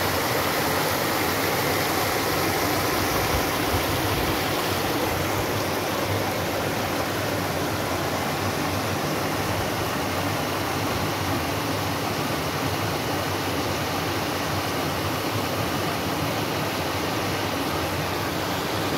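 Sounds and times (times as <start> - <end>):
small waterfall rushing: 0.0 - 18.9.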